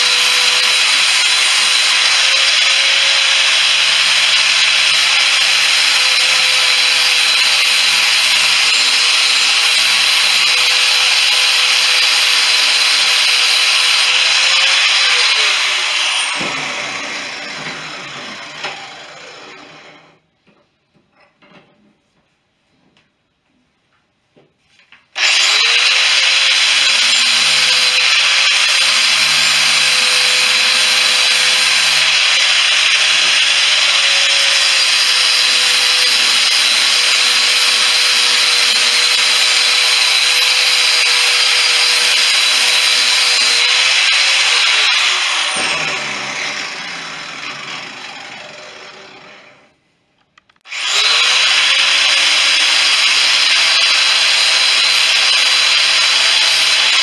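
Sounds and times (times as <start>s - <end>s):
electric grinder on metal: 0.0s - 20.0s, 25.2s - 49.7s, 50.6s - 57.0s.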